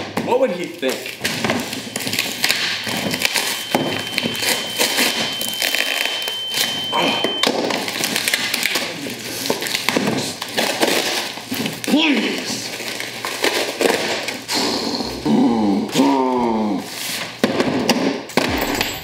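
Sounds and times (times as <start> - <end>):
packing tape and cardboard tearing: 0.0 - 19.0.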